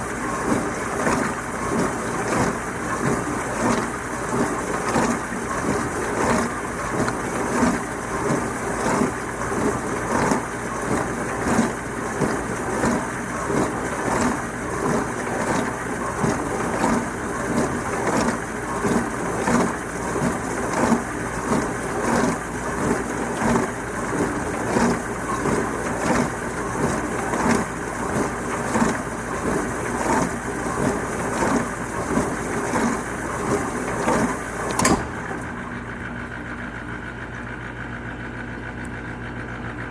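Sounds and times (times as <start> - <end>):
dishwasher spraying water: 0.0 - 35.9
dishwasher hum: 0.0 - 39.9.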